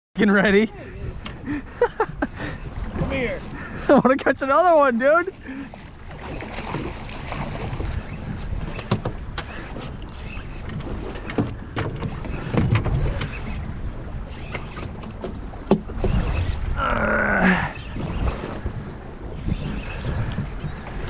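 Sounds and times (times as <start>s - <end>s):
water slapping boat hull: 0.2s - 21.0s
wind buffeting microphone: 0.6s - 3.9s, 5.3s - 21.0s.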